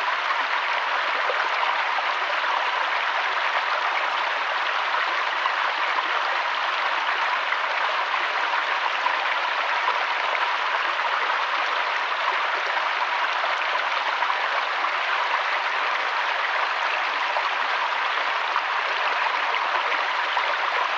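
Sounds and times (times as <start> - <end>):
flowing water rushing: 0.0 - 20.9.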